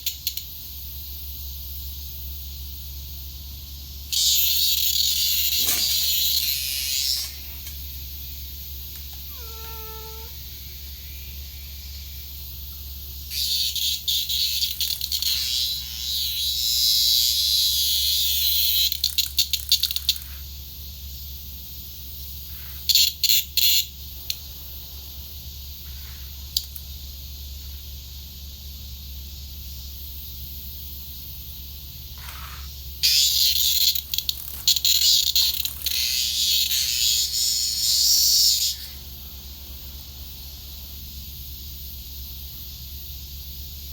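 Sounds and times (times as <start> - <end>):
cicada buzzing: 0.0 - 43.9.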